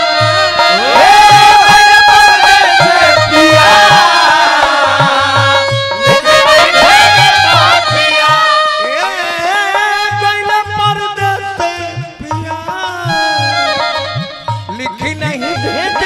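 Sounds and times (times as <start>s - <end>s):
steady drum beat: 0.0s - 16.0s
wavering folk melody: 0.0s - 16.0s.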